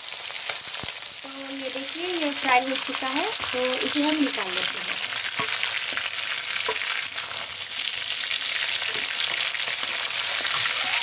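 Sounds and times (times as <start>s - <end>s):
prawns sizzling in hot oil: 0.0s - 11.0s.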